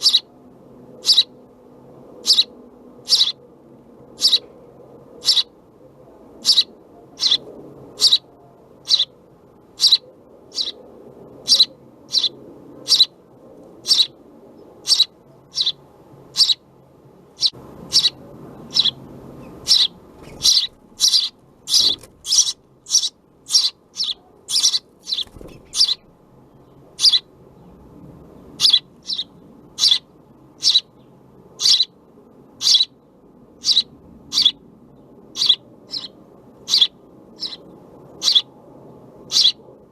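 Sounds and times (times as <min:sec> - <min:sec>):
sparrows chirping: 0:00.0 - 0:03.5, 0:04.1 - 0:05.6, 0:06.3 - 0:39.7.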